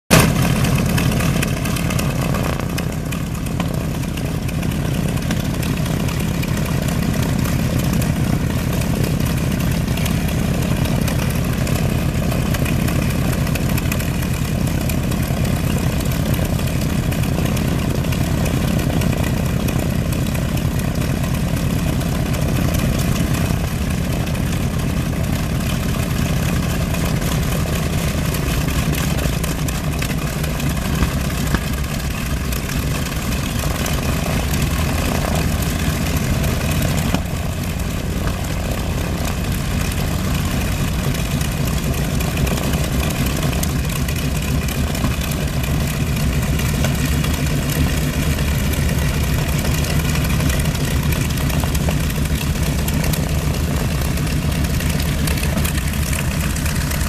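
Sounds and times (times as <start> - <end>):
aircraft engines idling drone: 0.1 - 57.0.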